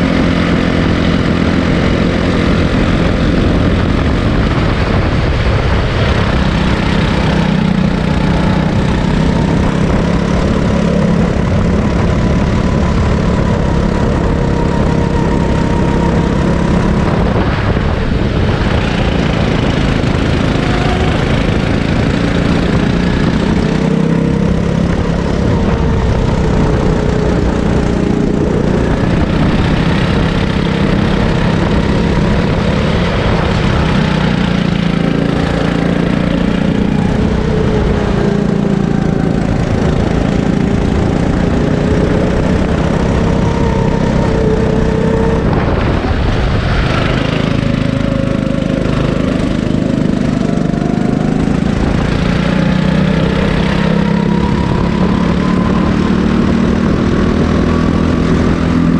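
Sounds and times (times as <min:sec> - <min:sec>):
kart engine running: 0:00.0 - 0:58.9.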